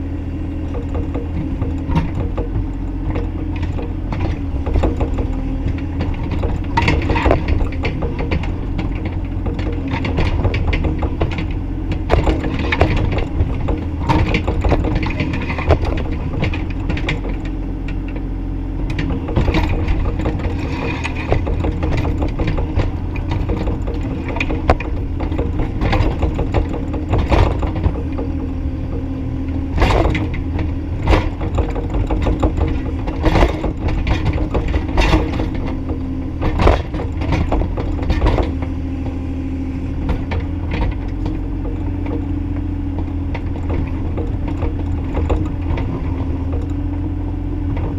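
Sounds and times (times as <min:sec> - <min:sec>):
excavator engine drone: 0:00.0 - 0:47.9
sharp knocks and clanks: 0:00.6 - 0:47.9.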